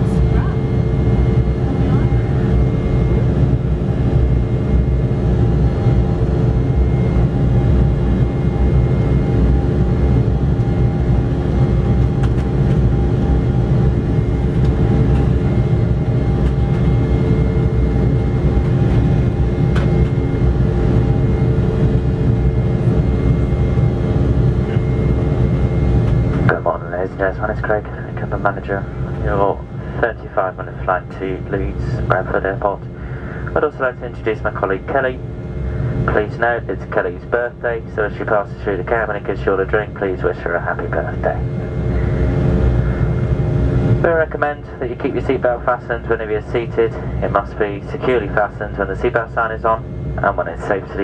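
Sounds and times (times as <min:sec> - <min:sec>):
airliner cabin rumble: 0:00.0 - 0:51.0
steady humming tones: 0:00.0 - 0:51.0.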